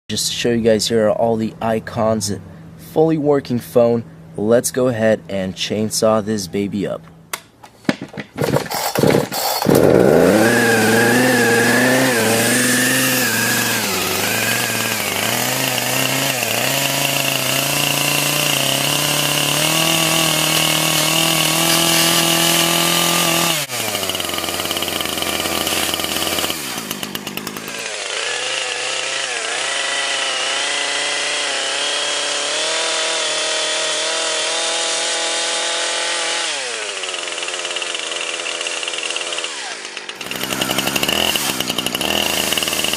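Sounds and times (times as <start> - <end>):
chainsaw starting and running: 8.1 - 42.9.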